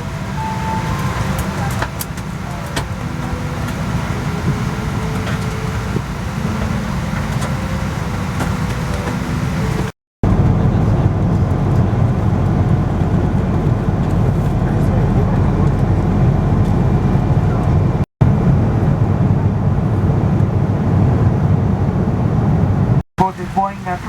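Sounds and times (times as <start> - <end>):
cabin air-conditioning rumble: 0.0 - 24.0.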